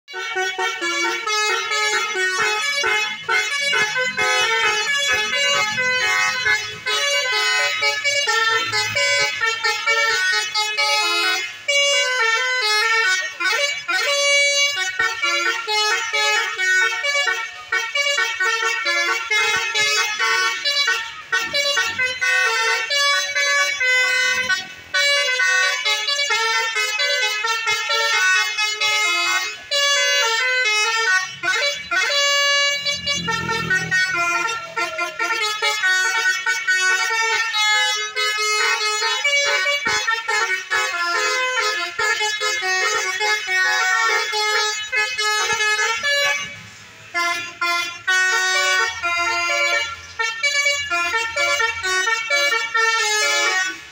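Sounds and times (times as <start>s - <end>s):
musical air horns playing melody: 0.1s - 53.9s.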